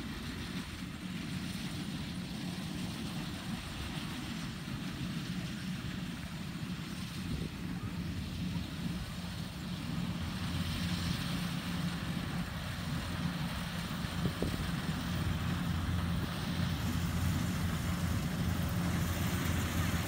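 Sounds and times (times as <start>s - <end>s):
combine harvester engine and machinery: 0.0s - 20.0s.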